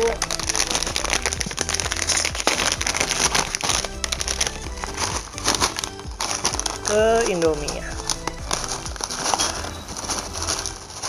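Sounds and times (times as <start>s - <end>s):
background music: 0.0s - 11.0s
foil chip bag crinkling: 0.0s - 11.0s.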